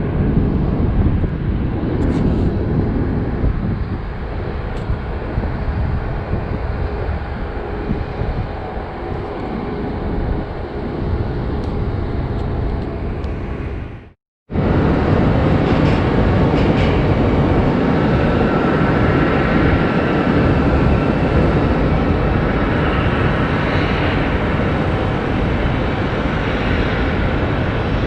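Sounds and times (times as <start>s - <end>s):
jet airliner engines rumbling: 0.0s - 28.0s.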